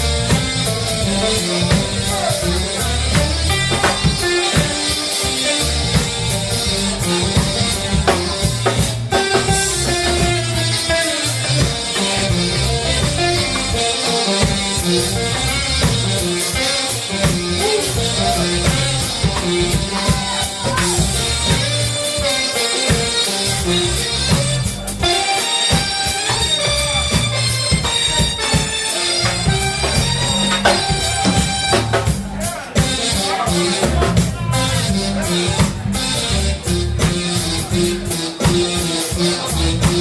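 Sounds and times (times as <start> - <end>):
low bass line: 0.0 - 4.7, 5.4 - 13.9, 14.5 - 22.1, 23.4 - 25.1, 26.3 - 28.4, 29.1 - 40.0
drum kit: 0.0 - 40.0
guitar: 0.0 - 40.0.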